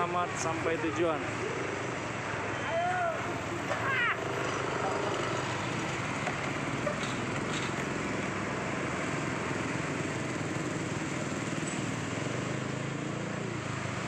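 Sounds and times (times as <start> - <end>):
motorbike engines: 0.0 - 14.0
truck engine: 0.0 - 14.0.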